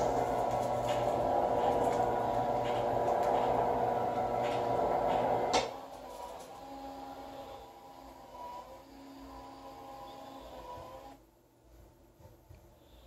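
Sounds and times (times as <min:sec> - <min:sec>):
blind motors humming: 0:00.0 - 0:11.2
faint steady hum: 0:00.0 - 0:13.0.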